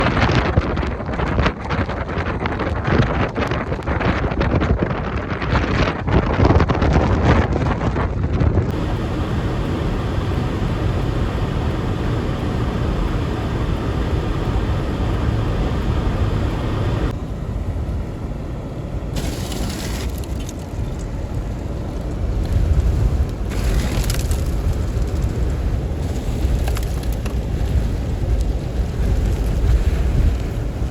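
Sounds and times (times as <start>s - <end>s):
strong wind on microphone: 0.0s - 30.9s.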